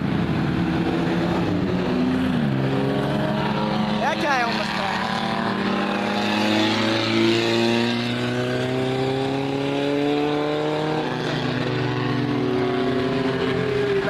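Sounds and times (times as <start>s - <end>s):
race car engines accelerating: 0.0s - 14.0s.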